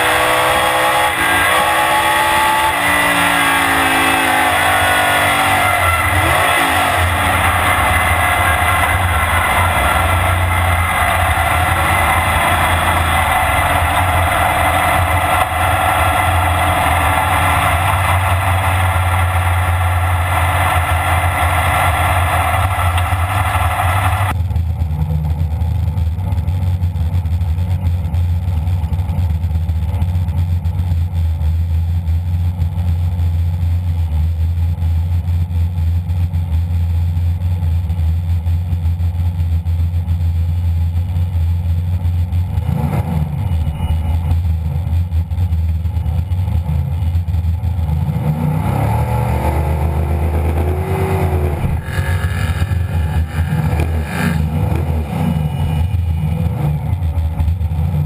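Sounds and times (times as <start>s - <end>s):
engine idling: 0.0s - 58.0s
race car engine running: 0.0s - 58.0s.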